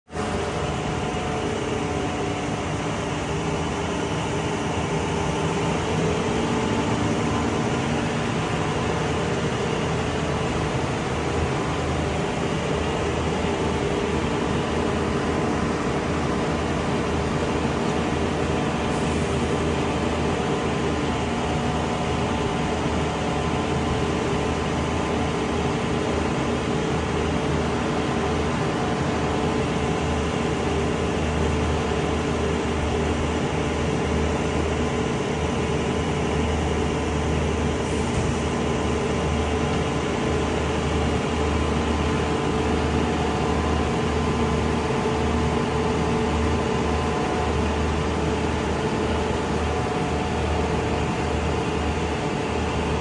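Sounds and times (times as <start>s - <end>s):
diesel engine and hydraulics drone: 0.1s - 53.0s.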